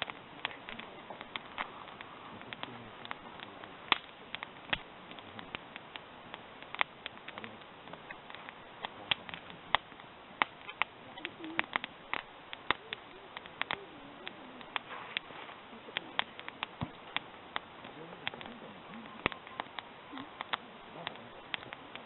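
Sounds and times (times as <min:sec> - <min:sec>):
campfire crackling and popping: 0:00.0 - 0:22.0
faint hiss: 0:00.0 - 0:22.0.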